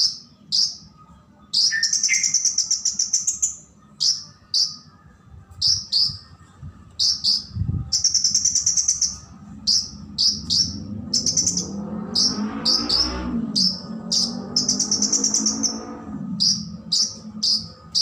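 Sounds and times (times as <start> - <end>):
fast rattling bird trill: 0.0 - 0.8, 1.5 - 4.9, 5.6 - 6.2, 7.0 - 18.0
bird chirping: 0.0 - 5.0, 5.6 - 6.3, 6.9 - 18.0.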